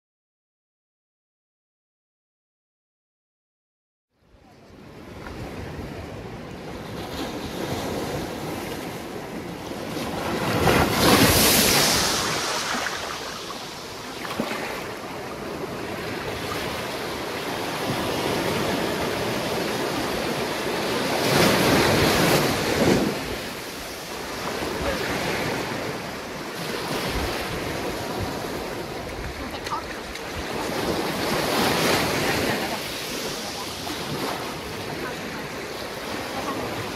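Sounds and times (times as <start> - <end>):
surf washing on beach: 4.4 - 36.9
waves crashing: 4.6 - 36.9.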